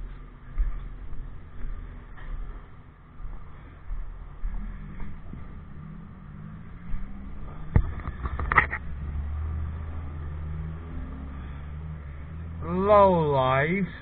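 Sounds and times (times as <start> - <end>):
motorcycle engine rumble: 0.0 - 14.0.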